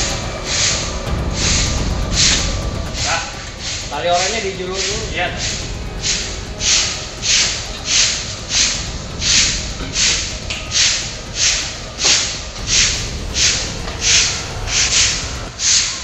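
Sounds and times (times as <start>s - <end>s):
low rumble: 0.0s - 16.0s
pulses of hissing: 0.0s - 16.0s.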